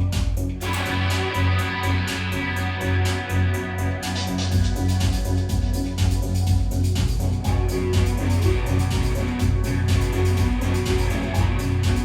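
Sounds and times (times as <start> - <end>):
techno music with steady beat: 0.0 - 12.0.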